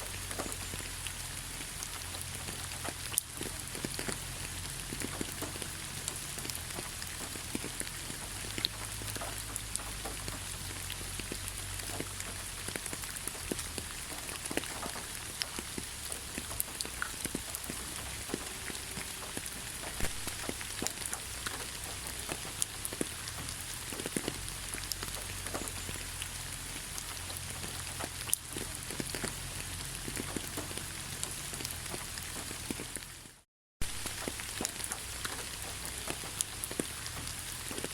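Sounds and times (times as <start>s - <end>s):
rain falling: 0.0s - 37.9s.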